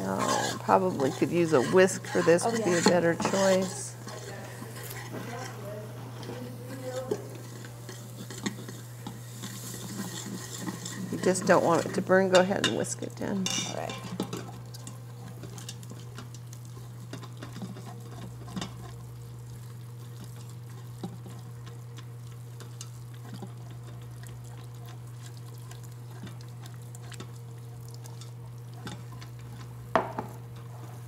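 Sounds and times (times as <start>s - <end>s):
faint sizzle: 0.0s - 31.0s
steady low hum: 0.0s - 31.0s
whisk scraping pot: 0.0s - 31.0s.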